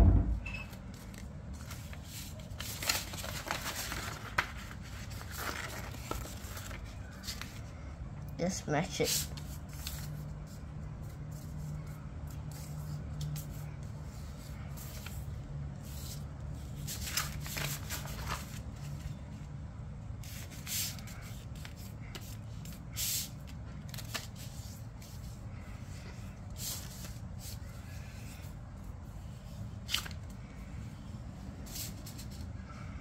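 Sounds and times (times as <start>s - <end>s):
paper rustling and creasing: 0.7s - 7.8s, 9.0s - 19.6s, 20.2s - 32.6s.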